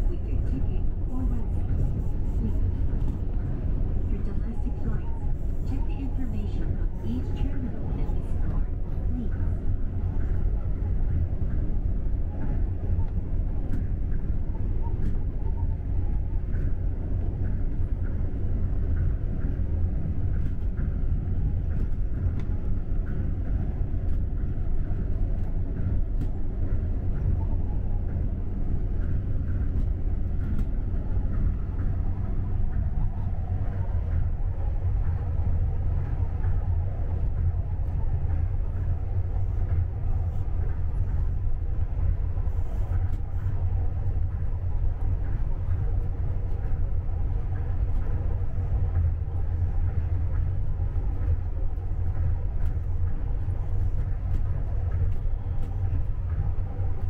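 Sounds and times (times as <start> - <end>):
monorail train rumbling: 0.0 - 57.0.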